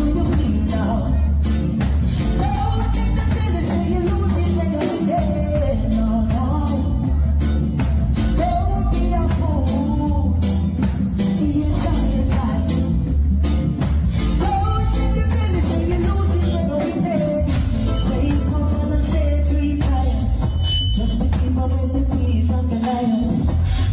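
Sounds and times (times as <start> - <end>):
man singing: 0.0 - 7.6, 8.2 - 13.1, 14.2 - 23.9
drum kit beat: 0.0 - 23.9
electric bass line: 0.0 - 23.9.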